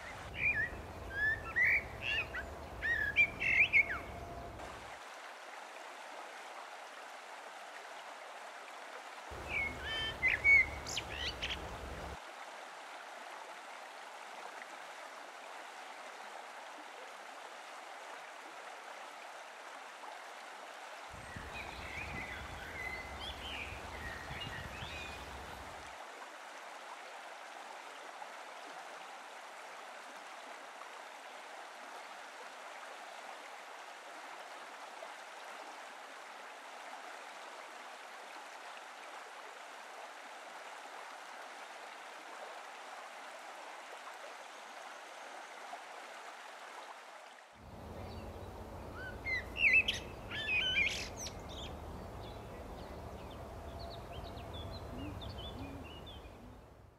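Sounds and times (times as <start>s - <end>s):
rushing flowing water: 0.0s - 56.9s.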